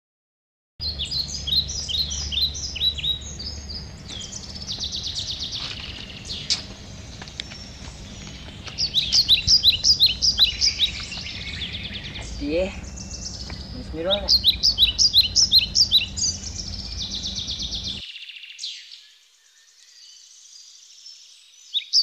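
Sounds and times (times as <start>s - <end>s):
birds chirping: 0.8s - 22.0s.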